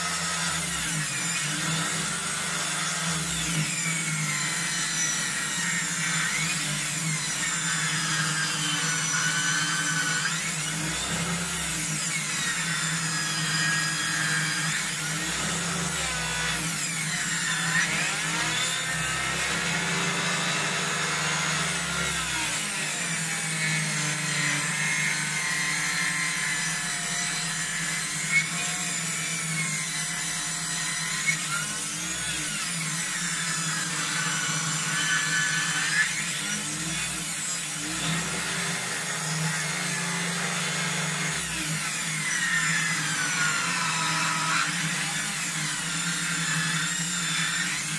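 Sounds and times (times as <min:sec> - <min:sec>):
electric saw cutting a log: 0:00.0 - 0:47.9.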